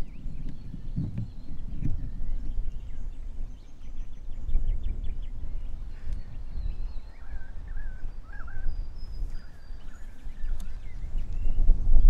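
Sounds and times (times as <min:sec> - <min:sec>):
birds whistling: 0:00.0 - 0:11.7.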